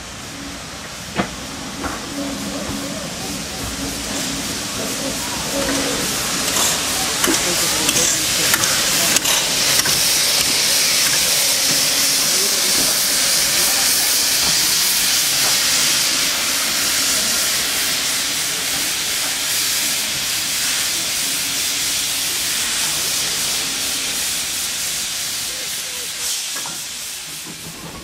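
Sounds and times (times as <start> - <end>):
locomotive steam hissing: 0.0 - 28.0.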